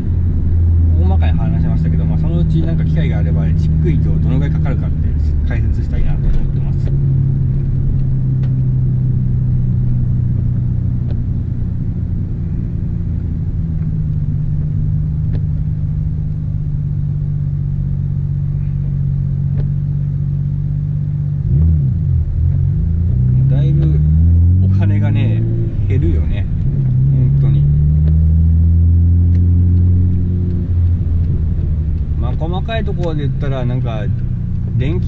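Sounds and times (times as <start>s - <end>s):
car engine at low revs: 0.0s - 35.0s.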